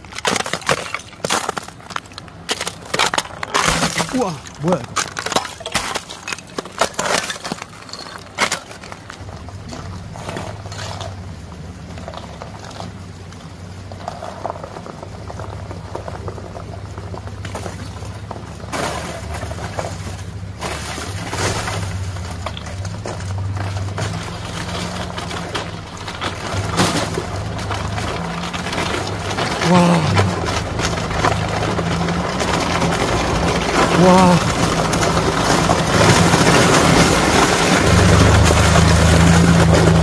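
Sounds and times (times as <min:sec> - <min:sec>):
ice crunching and cracking: 0:00.0 - 0:40.0
water sloshing under tyres: 0:00.0 - 0:40.0
pickup truck engine running low: 0:07.5 - 0:40.0.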